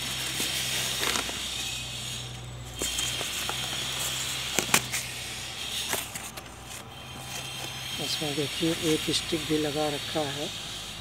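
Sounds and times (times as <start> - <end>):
cardboard rustling and scraping: 0.0 - 10.3.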